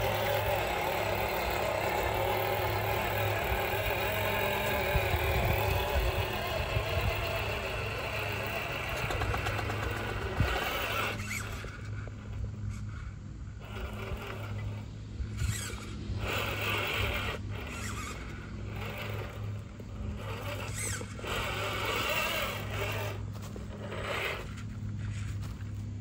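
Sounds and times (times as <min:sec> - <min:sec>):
toy car electric motor whine: 0:00.0 - 0:25.8
tyres scraping: 0:00.0 - 0:26.0.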